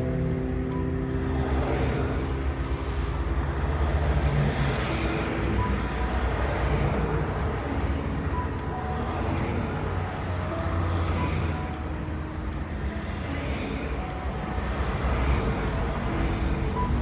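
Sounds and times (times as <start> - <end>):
traffic rumble: 0.0 - 17.0
vehicles passing hiss: 0.0 - 17.0.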